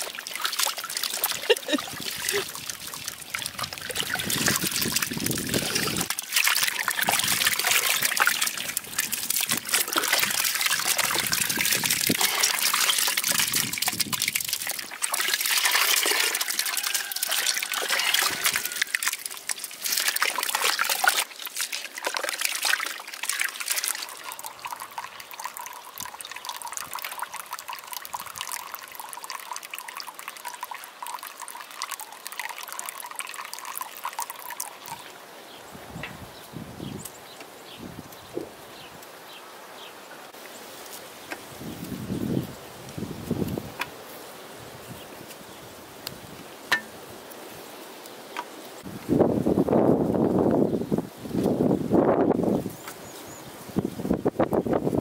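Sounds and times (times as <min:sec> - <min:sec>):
water trickling and splashing: 0:00.0 - 0:36.2, 0:38.2 - 0:55.0.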